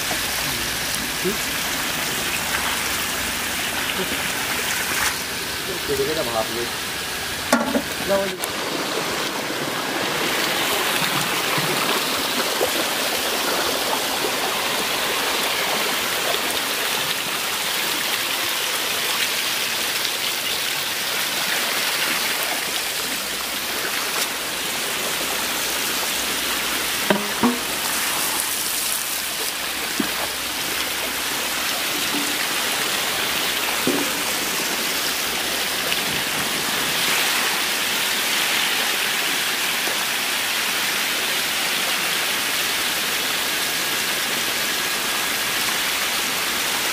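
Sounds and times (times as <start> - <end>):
water spraying from pipe: 0.0 - 46.9.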